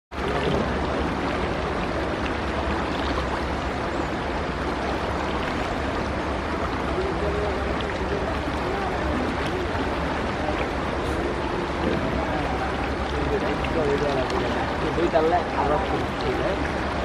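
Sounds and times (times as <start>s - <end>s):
low engine rumble: 0.1s - 17.0s
rushing water: 0.1s - 17.0s.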